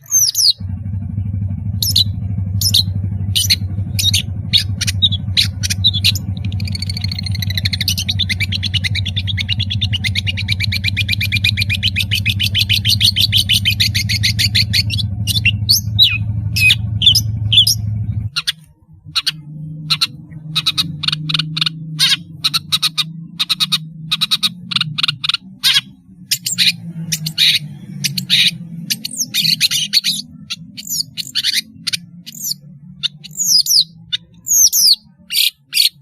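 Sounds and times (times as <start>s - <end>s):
low drone: 0.0s - 35.3s
bird singing harsh notes and trill: 0.0s - 36.0s
steady low hum: 0.0s - 36.0s.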